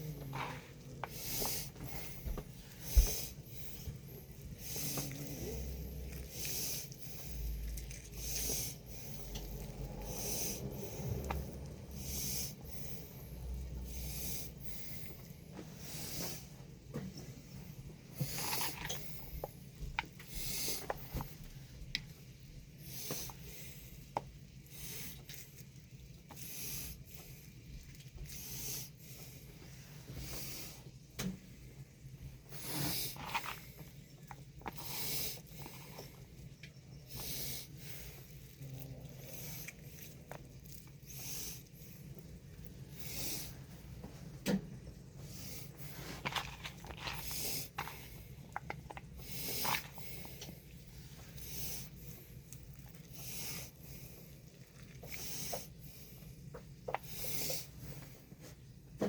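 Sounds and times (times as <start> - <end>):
hands squishing raw meat: 0.0 - 59.0
steady low hum: 0.0 - 59.0.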